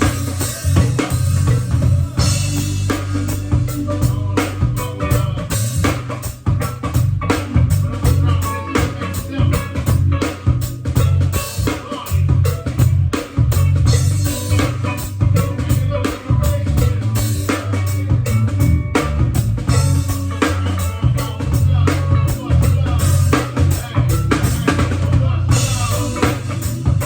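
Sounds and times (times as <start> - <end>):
drum kit beat with rimshots: 0.0 - 27.0
heavy bass line: 0.0 - 27.0
live band music: 0.0 - 27.0.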